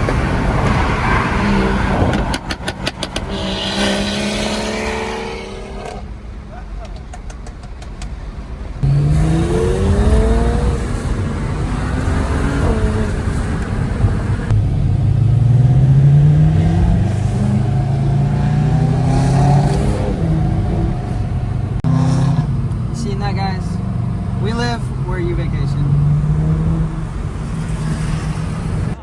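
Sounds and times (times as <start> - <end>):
car engine accelerating hard: 0.0 - 6.1, 8.8 - 29.0.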